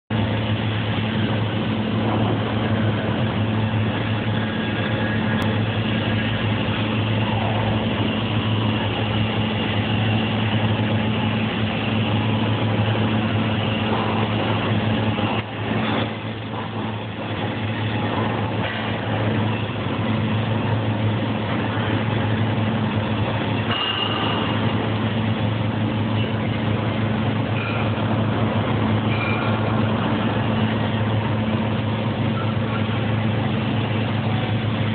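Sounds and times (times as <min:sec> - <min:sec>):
welding arc crackling: 0:00.1 - 0:34.9
welding set hum: 0:00.1 - 0:34.9.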